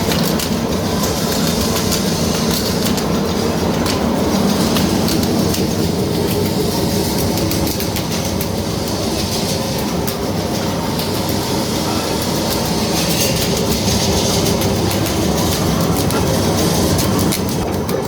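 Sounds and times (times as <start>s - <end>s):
welding machine drone: 0.0s - 18.0s.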